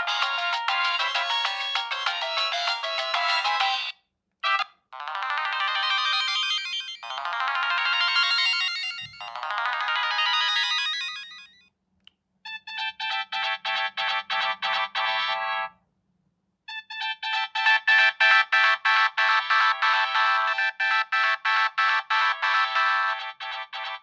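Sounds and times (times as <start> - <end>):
mobile phone ringtones: 0.0 - 11.7, 12.5 - 15.7, 16.7 - 24.0.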